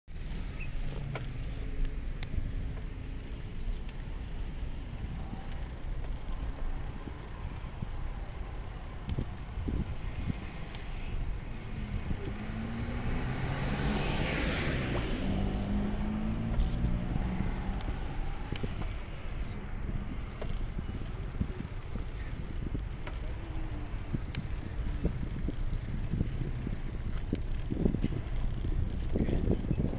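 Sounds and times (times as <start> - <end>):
road rumble: 0.1 - 29.9
small clicks and rattles: 0.2 - 13.2, 14.0 - 29.9
wind buffeting microphone: 1.6 - 29.9.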